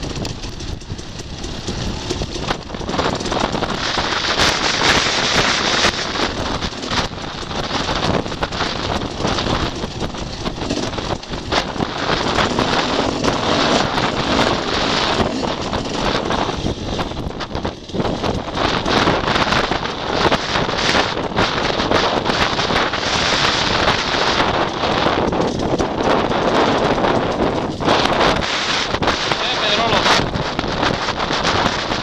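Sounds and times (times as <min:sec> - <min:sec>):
motorcycle engine: 0:00.0 - 0:32.0
wind buffeting microphone: 0:00.0 - 0:32.0.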